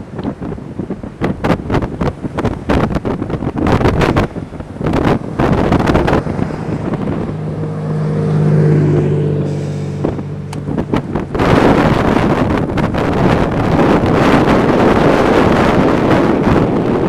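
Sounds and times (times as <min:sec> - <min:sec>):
vehicle engine low hum: 0:00.0 - 0:17.0
wind buffeting microphone: 0:00.0 - 0:17.0.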